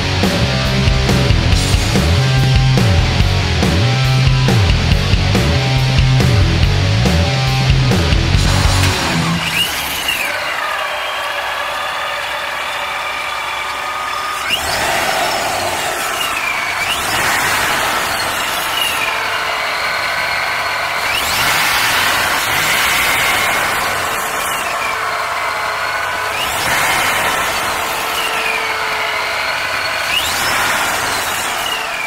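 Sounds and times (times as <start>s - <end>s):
car engine revving: 0.0s - 32.0s
supercharger whine: 0.0s - 32.0s.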